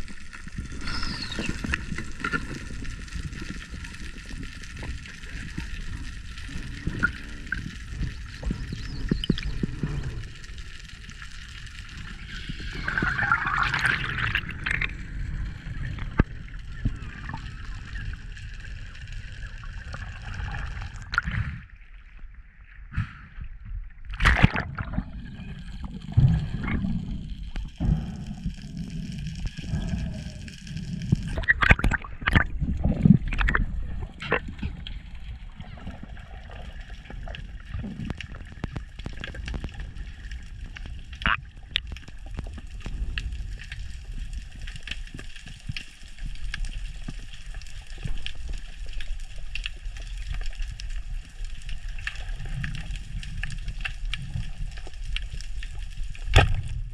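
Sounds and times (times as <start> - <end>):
underwater rumble and gurgling: 0.0 - 56.9.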